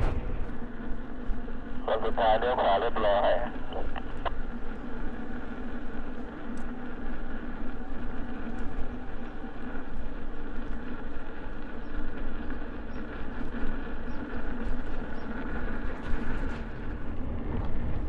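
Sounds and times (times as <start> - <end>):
wind buffeting microphone: 0.0 - 2.4, 3.6 - 18.0
faint steady hum: 0.0 - 18.0
road rumble: 0.0 - 18.0.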